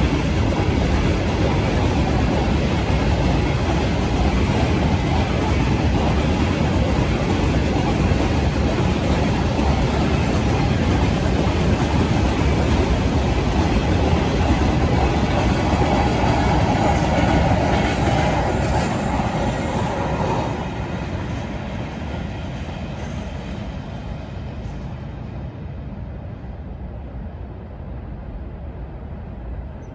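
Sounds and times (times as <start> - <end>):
train rumbling past on rails: 0.0 - 29.9.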